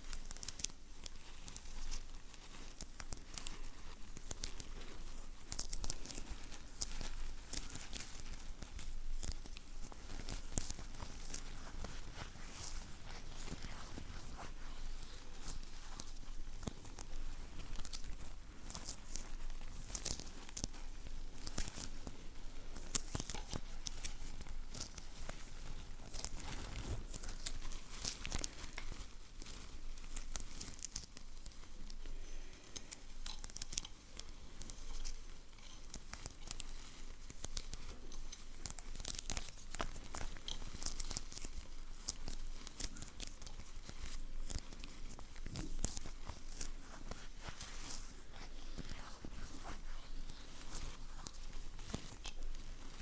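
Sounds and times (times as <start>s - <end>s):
sticky surface peeling and crinkling: 0.0s - 53.0s.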